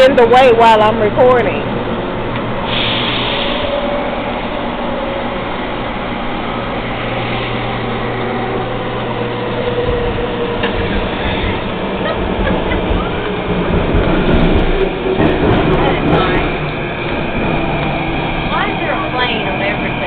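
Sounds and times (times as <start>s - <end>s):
train rumbling from inside: 0.0s - 20.0s.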